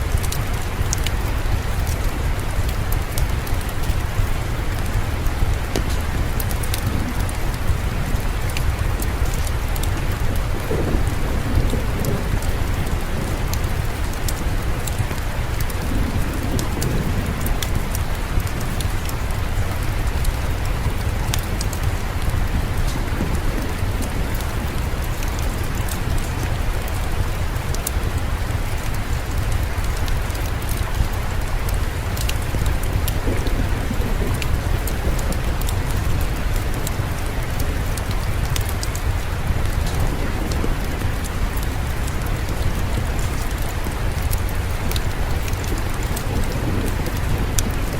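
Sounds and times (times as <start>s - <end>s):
distant thunder rumble: 0.0s - 47.9s
fireplace crackles: 0.0s - 47.9s
steady rain falling: 0.0s - 47.9s.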